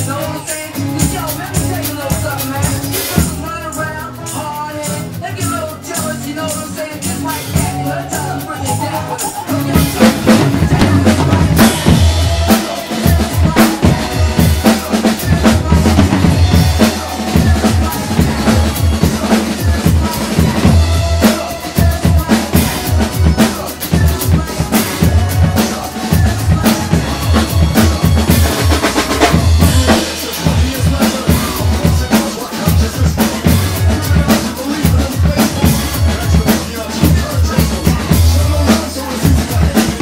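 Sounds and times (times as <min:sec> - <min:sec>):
drum kit played hard: 0:00.0 - 0:40.0
hip-hop track with bass line: 0:00.0 - 0:40.0.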